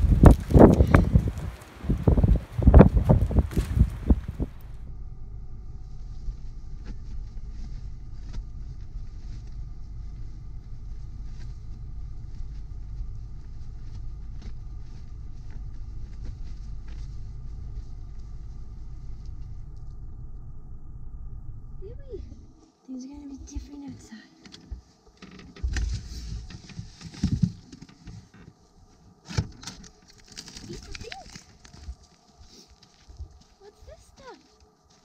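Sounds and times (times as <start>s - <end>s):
faint steady hum: 0.0s - 35.0s
low rumble inside a van: 0.0s - 35.0s.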